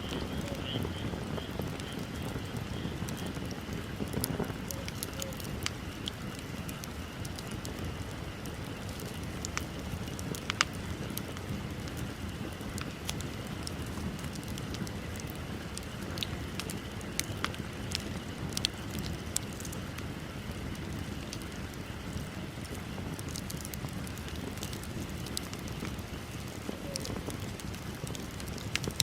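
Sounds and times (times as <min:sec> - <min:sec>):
fire crackles and pops: 0:00.0 - 0:29.0
low rush of flames: 0:00.0 - 0:29.0.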